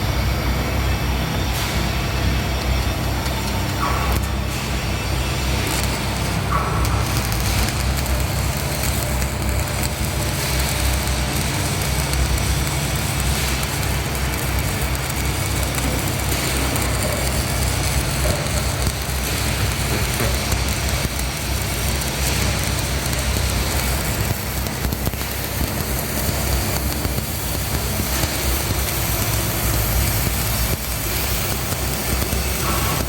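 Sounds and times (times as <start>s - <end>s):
constant low hum: 0.0s - 33.0s
welding arc crackling and sizzling: 0.0s - 33.0s.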